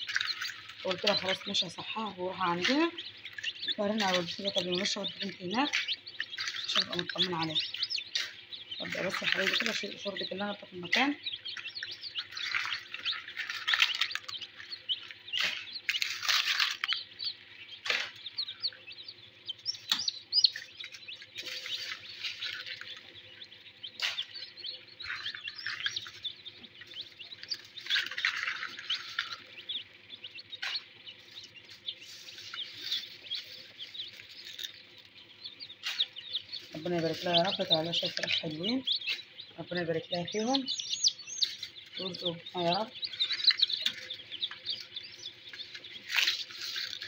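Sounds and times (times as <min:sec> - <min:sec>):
eggshell clicking and crackling: 0:00.0 - 0:39.6, 0:40.7 - 0:47.0
chicks peeping: 0:00.0 - 0:47.0.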